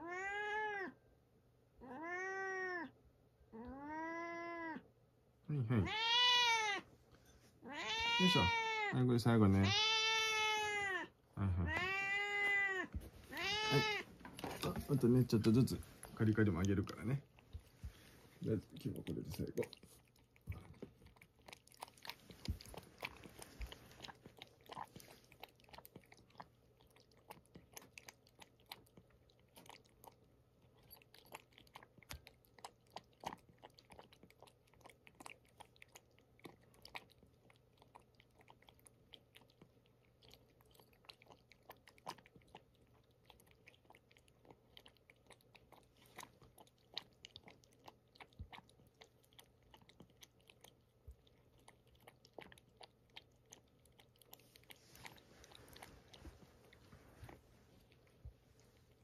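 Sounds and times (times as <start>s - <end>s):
cat chewing and lip-smacking: 11.6s - 59.0s.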